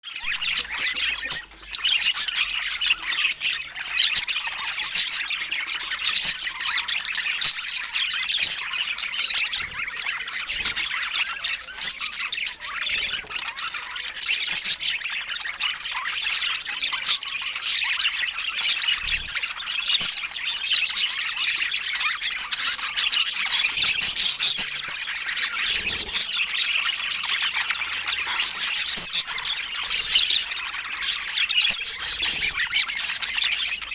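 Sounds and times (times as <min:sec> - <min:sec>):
budgerigars chirping: 0:00.1 - 0:33.9.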